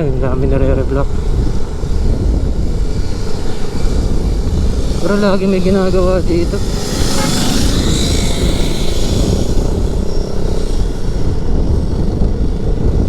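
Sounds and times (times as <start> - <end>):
motorcycle engine cruising: 0.0 - 13.0
wind rushing over microphone: 0.0 - 13.0.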